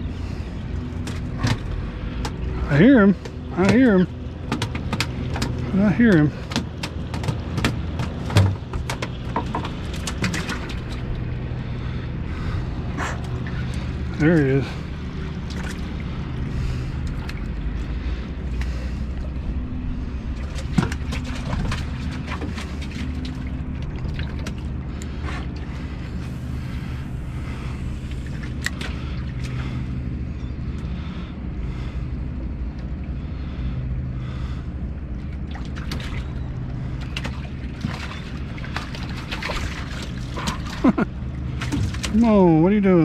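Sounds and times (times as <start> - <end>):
boat motor running: 0.0 - 43.0.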